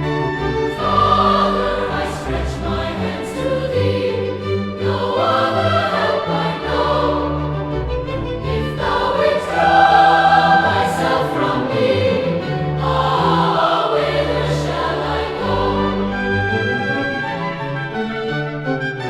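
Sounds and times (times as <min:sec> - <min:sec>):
low accompaniment: 0:00.0 - 0:19.0
choir singing a slow hymn: 0:00.2 - 0:17.0.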